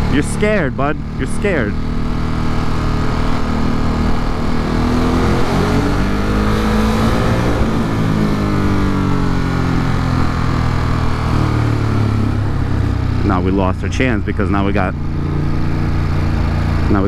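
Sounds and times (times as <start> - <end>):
motorcycle engine accelerating: 0.0 - 17.0
wind and road noise: 0.0 - 17.0.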